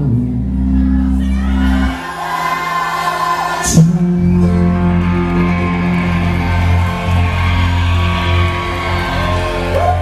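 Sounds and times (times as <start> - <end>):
live rock band: 0.1 - 10.0.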